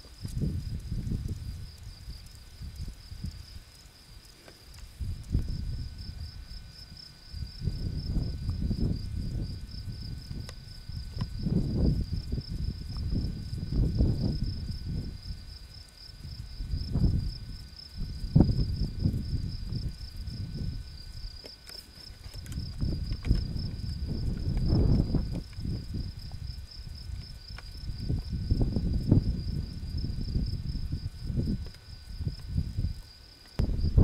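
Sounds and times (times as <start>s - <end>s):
wind buffeting microphone: 0.0s - 4.2s, 4.8s - 21.4s, 22.1s - 34.0s
insect trilling: 0.0s - 34.0s.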